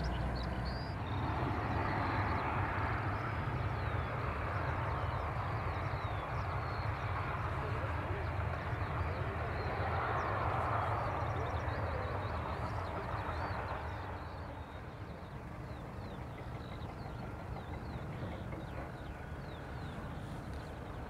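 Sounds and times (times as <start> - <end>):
birds chirping: 0.0 - 21.0
jet engines rumbling: 0.0 - 21.0.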